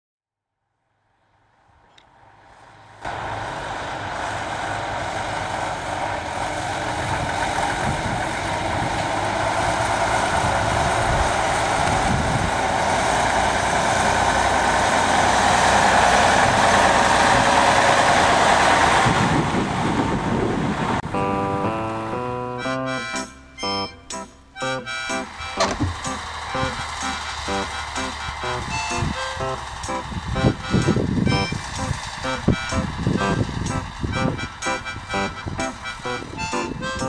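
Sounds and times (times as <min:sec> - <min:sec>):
heavy truck engine running: 0:02.1 - 0:37.0.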